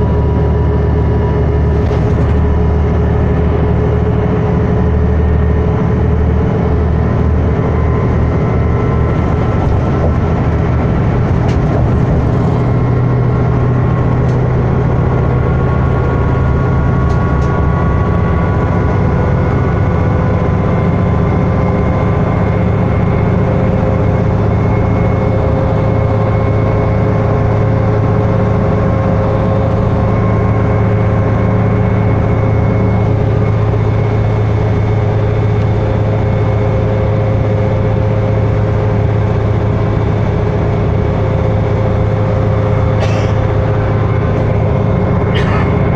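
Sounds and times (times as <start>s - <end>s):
bus engine low drone: 0.0s - 45.9s
road noise: 0.0s - 45.9s.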